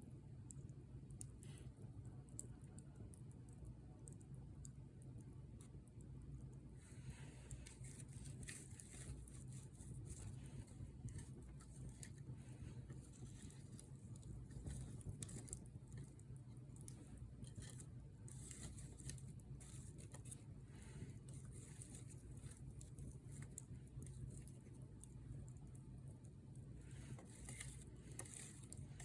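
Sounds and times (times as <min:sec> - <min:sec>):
low steady fire rumble: 0:00.0 - 0:29.0.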